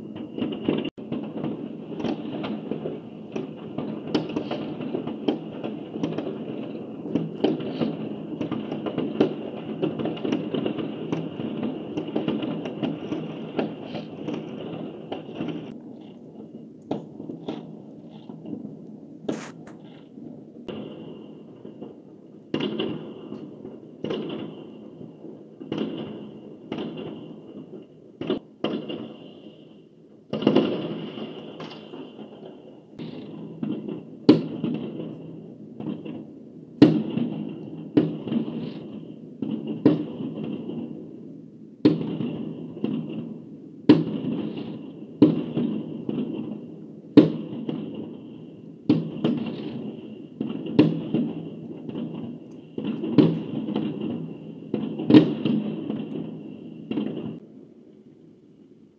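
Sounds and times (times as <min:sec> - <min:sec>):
fireworks bangs: 0:00.0 - 0:57.6
fireworks crackle: 0:00.0 - 0:58.7.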